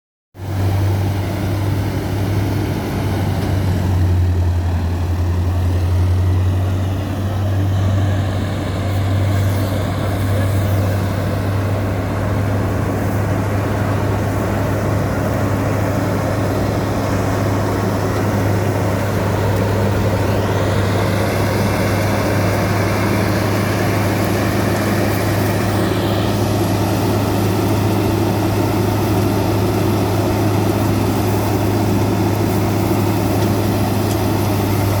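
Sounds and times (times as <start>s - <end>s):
combine harvester running: 0.4s - 35.0s.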